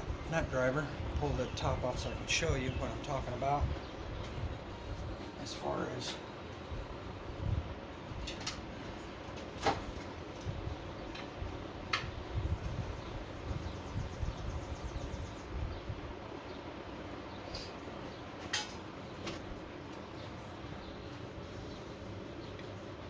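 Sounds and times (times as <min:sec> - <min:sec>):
steady fan hum: 0:00.0 - 0:23.0.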